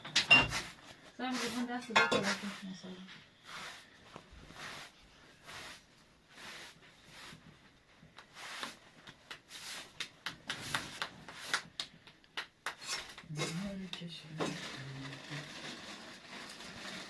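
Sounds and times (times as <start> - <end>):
hand rubbing or scraping strokes: 0.4 - 11.9, 14.6 - 17.0.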